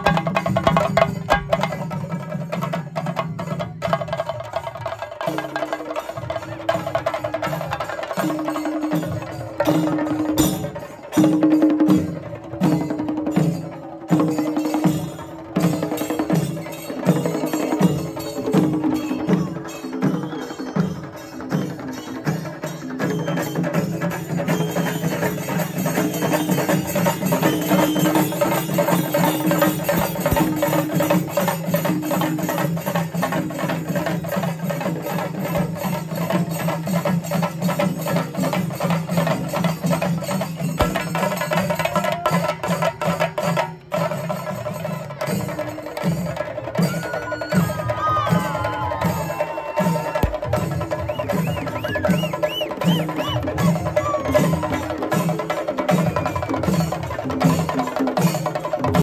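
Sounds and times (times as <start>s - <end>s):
fast dense drumming with sticks: 0.0s - 20.2s, 20.8s - 59.0s.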